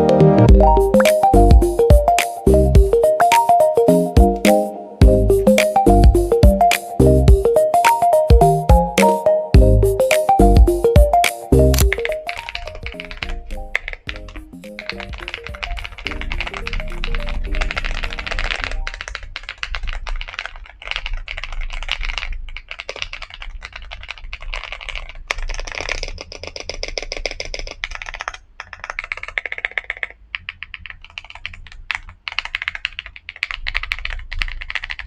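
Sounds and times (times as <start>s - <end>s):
very rapid even clicks: 1.0s - 4.7s, 5.3s - 9.2s, 10.0s - 35.0s.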